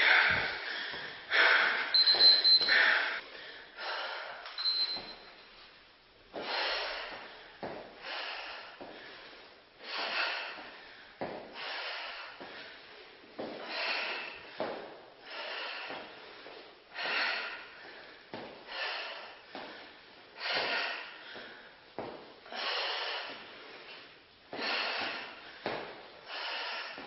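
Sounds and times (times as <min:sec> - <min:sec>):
woman breathing hard: 0:00.0 - 0:05.1, 0:06.3 - 0:27.0.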